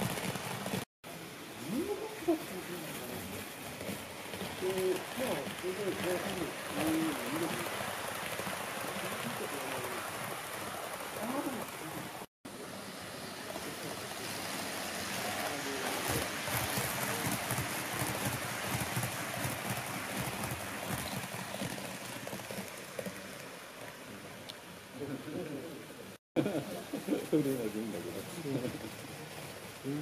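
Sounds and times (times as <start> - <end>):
model train rumbling on track: 0.0 - 24.4.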